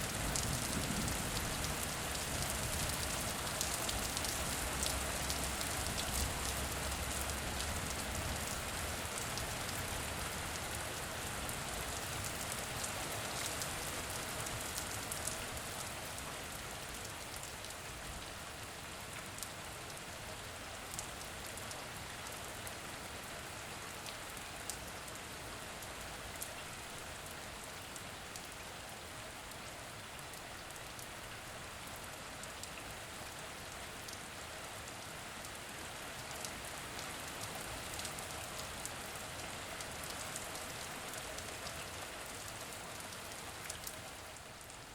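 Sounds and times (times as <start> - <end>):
steady rainfall: 0.0 - 44.9.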